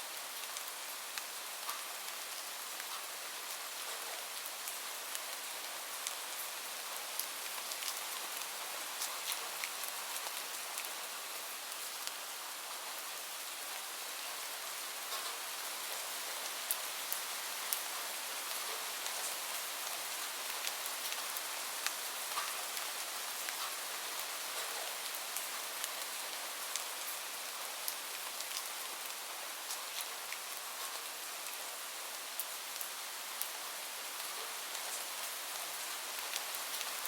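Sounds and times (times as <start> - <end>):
rain hiss: 0.0 - 37.0
raindrops ticking on a surface: 0.1 - 37.0.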